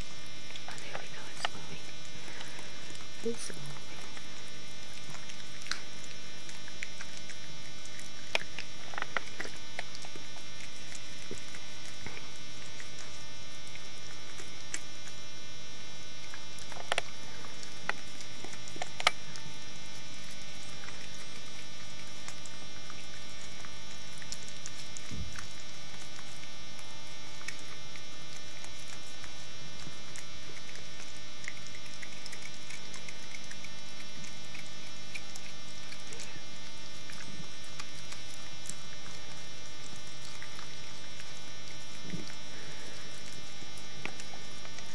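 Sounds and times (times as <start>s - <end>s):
electrical mains hum: 0.0s - 44.9s.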